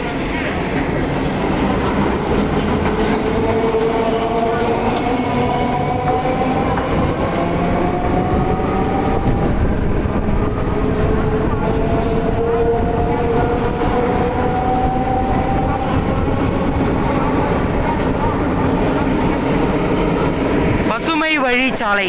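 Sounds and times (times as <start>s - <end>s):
train rumble and rail noise: 0.0s - 22.0s.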